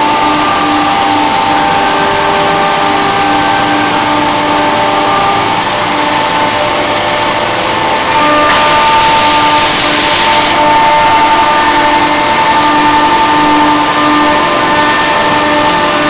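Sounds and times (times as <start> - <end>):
machine tones shifting pitch: 0.0 - 16.0
milling machine whirring: 0.0 - 16.0.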